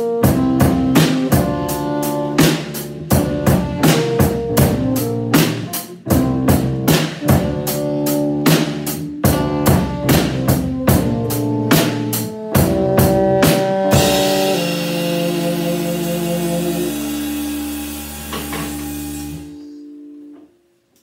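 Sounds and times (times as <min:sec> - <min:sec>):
drum kit groove: 0:00.0 - 0:19.6
keyboard chords: 0:00.0 - 0:21.0.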